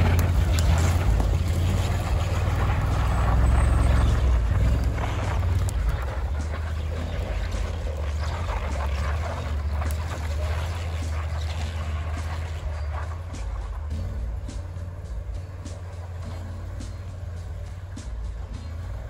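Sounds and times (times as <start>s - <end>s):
tracks crackling through brush: 0.0s - 19.0s
vehicle engine running: 0.0s - 19.0s.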